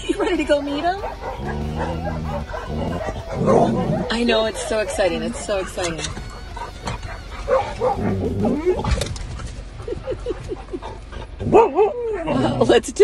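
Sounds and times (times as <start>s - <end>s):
dogs yipping: 0.3s - 12.8s
dogs whining: 0.7s - 12.8s.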